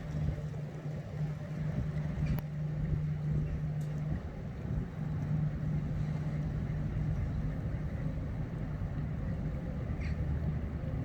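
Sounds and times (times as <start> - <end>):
ship engine humming: 0.0 - 11.0.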